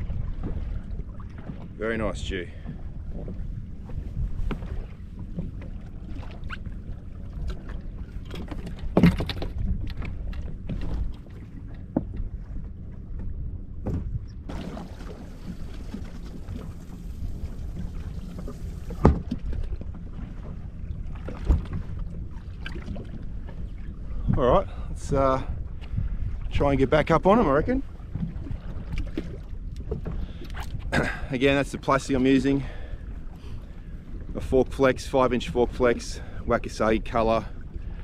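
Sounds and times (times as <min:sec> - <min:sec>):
low rumble of wind and water: 0:00.0 - 0:38.0.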